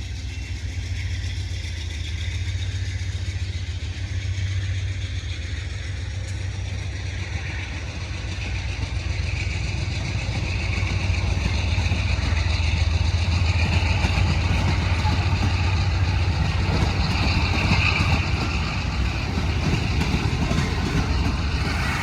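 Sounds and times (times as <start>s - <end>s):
diesel locomotive engine running: 0.0s - 22.0s.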